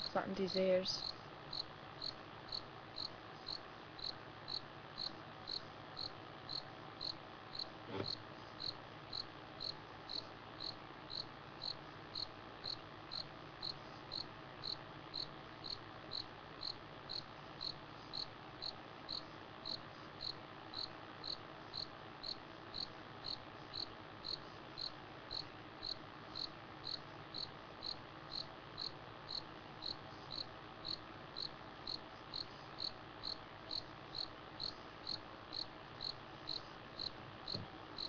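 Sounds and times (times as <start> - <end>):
night insect chirping: 1.0 - 37.6.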